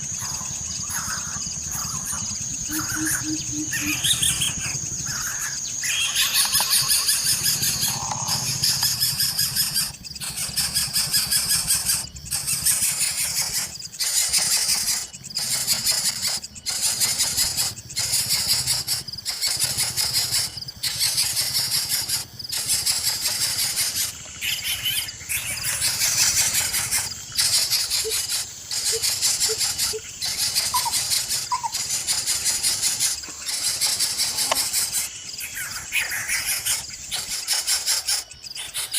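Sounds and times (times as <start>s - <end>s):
faint chirps: 0.0s - 38.9s
chicks begging squeals: 0.2s - 38.9s.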